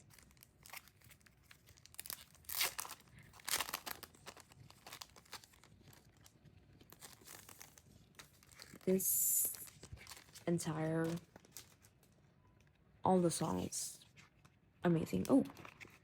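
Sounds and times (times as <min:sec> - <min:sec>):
packaging crinkling and tearing: 0:00.0 - 0:12.8, 0:13.5 - 0:16.0.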